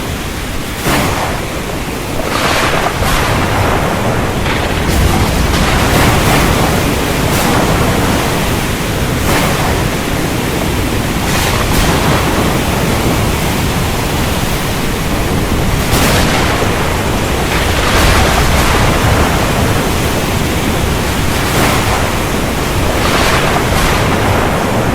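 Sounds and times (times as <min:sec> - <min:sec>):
heavy rain: 0:00.0 - 0:24.9
thunder cracks: 0:00.0 - 0:24.9.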